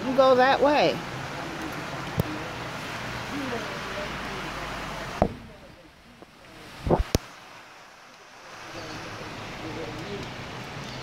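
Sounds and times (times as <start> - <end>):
rain hiss: 0.0 - 11.0
running floodwater: 0.0 - 11.0.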